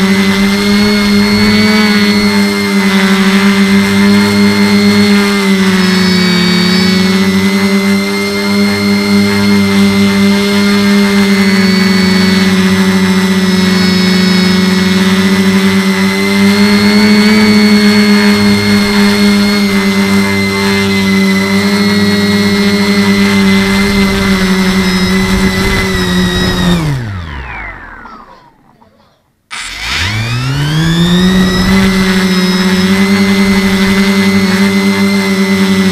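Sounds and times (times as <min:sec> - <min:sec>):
quadcopter motors whining: 0:00.0 - 0:35.9.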